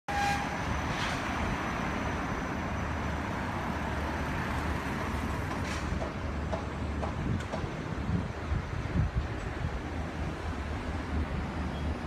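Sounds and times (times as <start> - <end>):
city street traffic: 0.1 - 12.0
tram running on tracks: 0.1 - 12.0.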